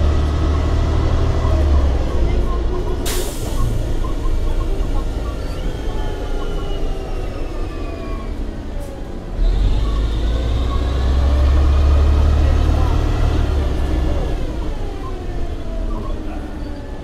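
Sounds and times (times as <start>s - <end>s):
bus drivetrain whining: 0.0s - 17.0s
bus engine deep rumble: 0.0s - 17.0s.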